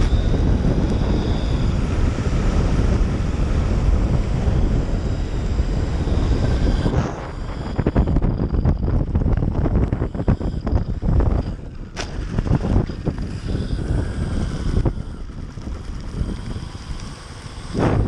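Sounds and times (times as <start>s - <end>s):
rumble of board tyres on concrete: 0.0s - 18.0s
wind buffeting on microphone: 0.0s - 18.0s.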